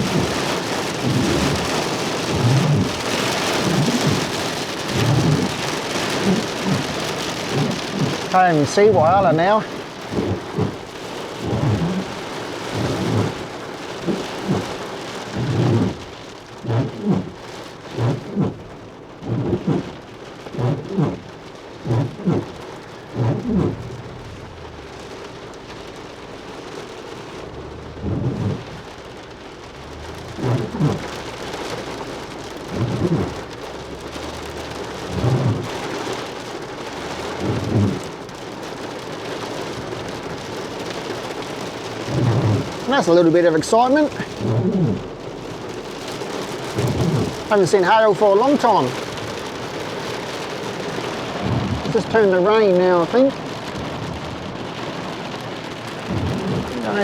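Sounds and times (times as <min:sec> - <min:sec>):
dull low thumps: 0:00.0 - 0:36.2, 0:37.0 - 0:38.2, 0:39.8 - 0:47.6, 0:48.8 - 0:52.4, 0:53.3 - 0:57.0
hail and heavy rain: 0:00.0 - 0:57.0.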